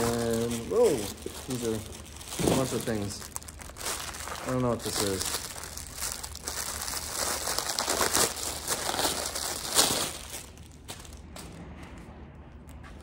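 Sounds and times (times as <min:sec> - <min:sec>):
packaging crinkling and rustling: 0:00.0 - 0:11.6.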